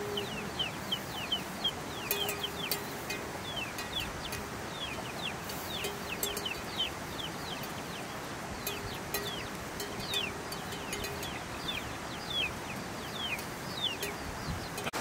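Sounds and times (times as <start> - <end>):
chickens clucking: 0.0 - 15.0
chickens peeping: 0.0 - 15.0.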